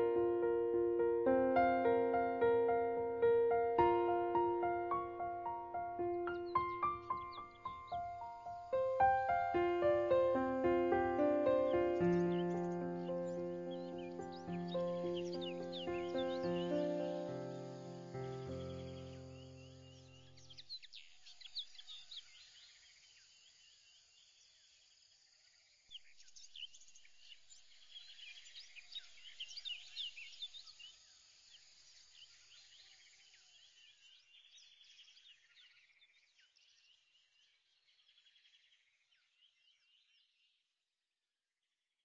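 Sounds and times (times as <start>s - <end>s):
faint birdsong: 0.0s - 40.7s.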